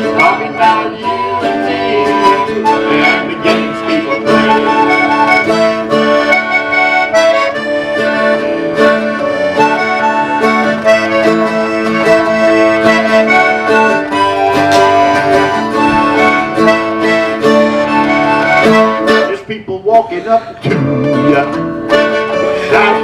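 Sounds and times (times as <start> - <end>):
free-reed instrument melody: 0.0 - 19.5, 20.6 - 23.0
plucked guitar: 0.0 - 19.6, 20.4 - 23.0.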